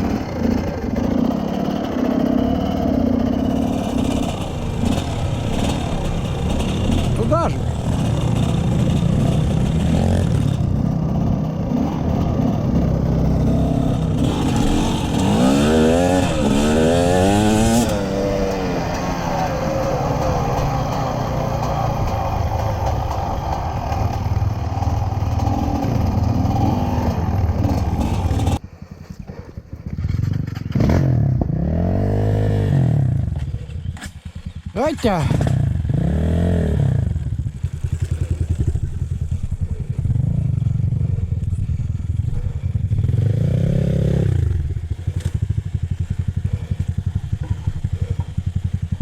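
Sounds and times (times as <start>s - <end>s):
off-road motorcycle engine revving: 0.0s - 49.0s.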